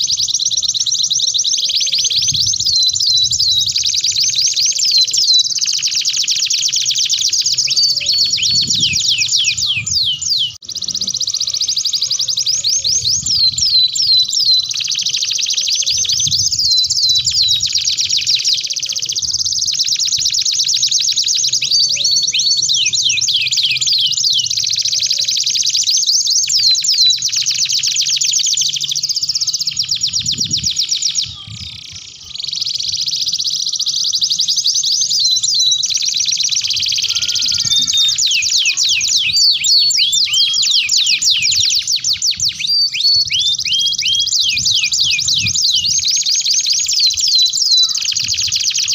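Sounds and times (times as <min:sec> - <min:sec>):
canaries singing trills: 0:00.0 - 0:48.9.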